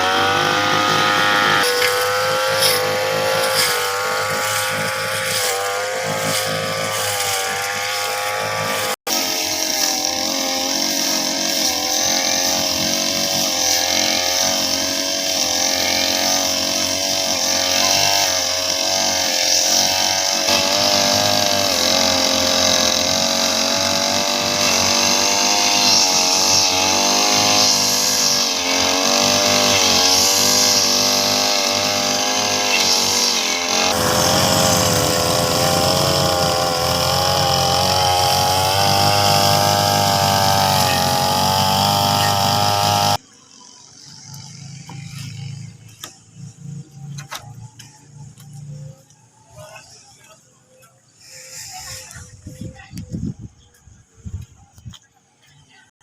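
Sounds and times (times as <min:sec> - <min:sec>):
brush cutter engine cutting grass: 0:00.0 - 0:49.1.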